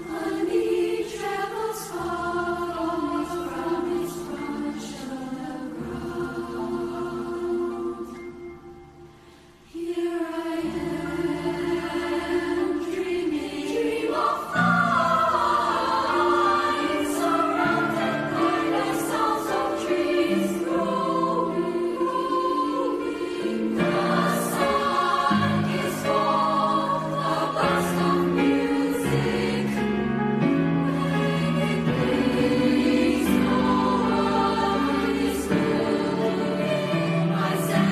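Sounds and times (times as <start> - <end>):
youth choir singing: 0.0 - 8.8, 9.7 - 37.9.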